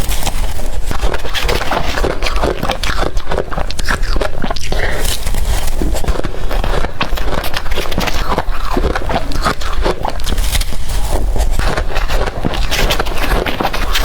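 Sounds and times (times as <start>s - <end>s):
ice crunching being chewed: 0.0s - 14.0s.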